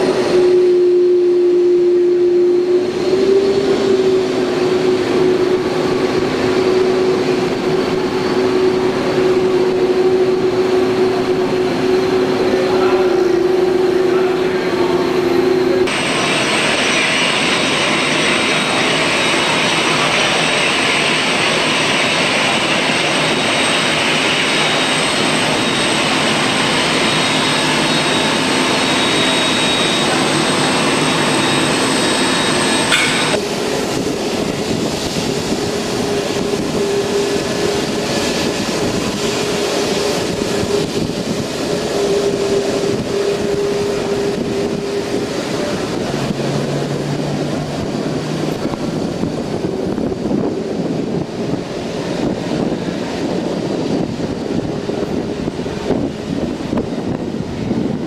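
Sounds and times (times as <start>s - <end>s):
jet airliner taxiing hum: 0.0s - 58.0s
jet engine high whine: 0.0s - 58.0s.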